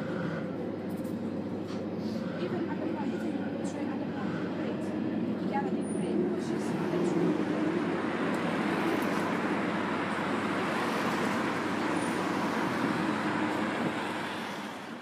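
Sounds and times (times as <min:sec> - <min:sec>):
vehicle rumble and hiss: 0:00.0 - 0:03.0, 0:03.6 - 0:15.0.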